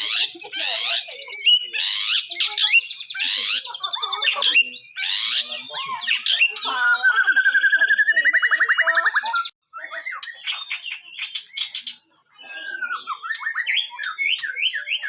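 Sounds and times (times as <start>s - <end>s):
songbird singing whistled notes: 0.0s - 15.0s.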